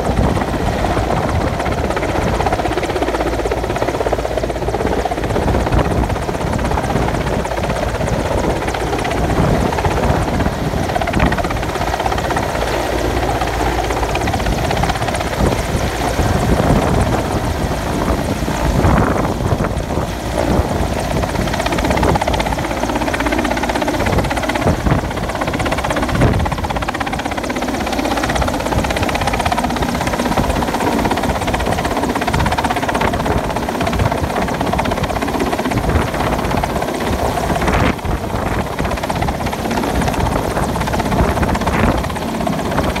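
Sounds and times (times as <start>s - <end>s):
helicopter hovering: 0.0s - 43.0s.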